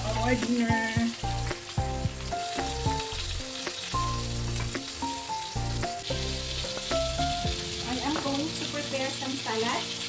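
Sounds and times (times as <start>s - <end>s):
background music with bass: 0.0s - 8.1s
meat sizzling in oil: 0.0s - 10.0s.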